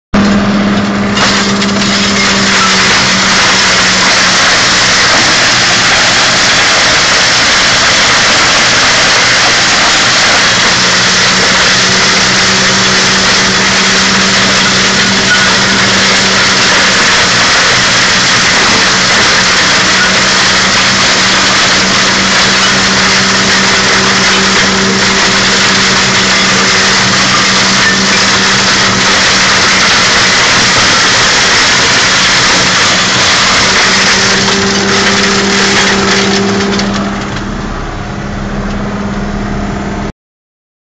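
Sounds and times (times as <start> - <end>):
tractor diesel engine hum: 0.1 - 40.1
mulcher flails shredding branches: 1.1 - 37.4.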